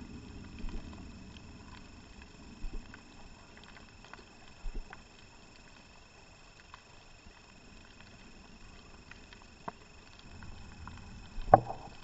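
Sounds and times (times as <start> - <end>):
faint crackling clicks: 0.0 - 12.0.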